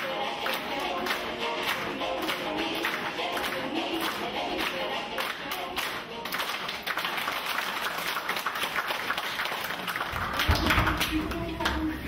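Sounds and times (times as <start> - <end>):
dance music: 0.0 - 7.8, 9.8 - 12.0
crowd clapping: 0.4 - 11.9.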